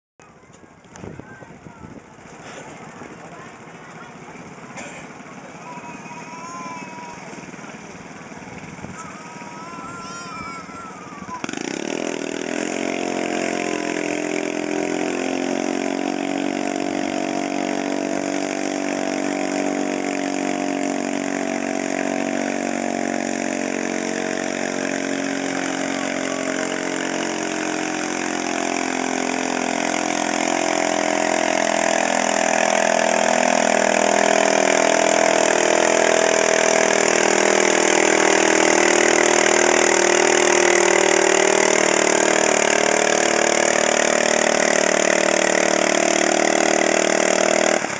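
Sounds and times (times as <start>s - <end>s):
small tractor engine running hard: 0.2s - 47.9s.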